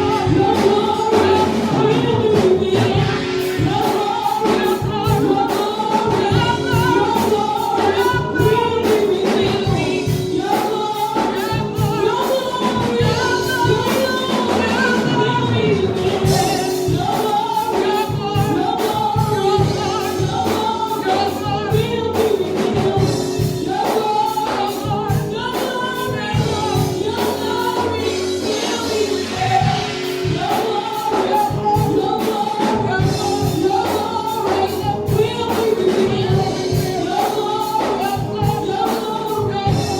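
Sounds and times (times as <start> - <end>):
band with steady beat: 0.0 - 39.9
gospel choir singing: 0.0 - 39.9.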